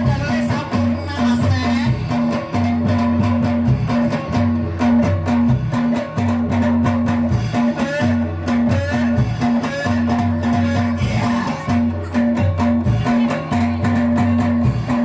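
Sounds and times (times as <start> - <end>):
loud band music: 0.0 - 15.0.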